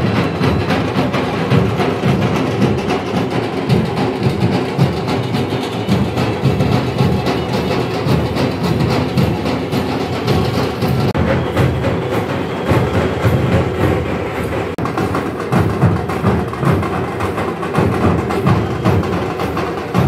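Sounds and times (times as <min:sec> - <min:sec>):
loud procession music: 0:00.0 - 0:20.0
rapid heavy drumming: 0:00.0 - 0:20.0.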